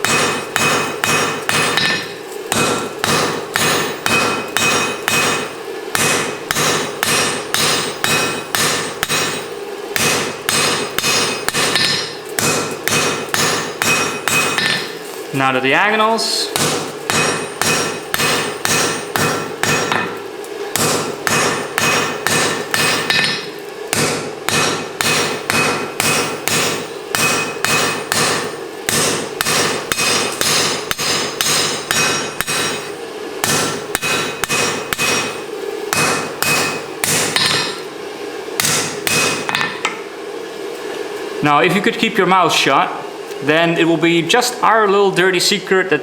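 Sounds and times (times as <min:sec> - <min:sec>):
hammer ringing on anvil: 0:00.0 - 0:14.9, 0:16.5 - 0:20.2, 0:20.8 - 0:37.9, 0:38.6 - 0:40.0.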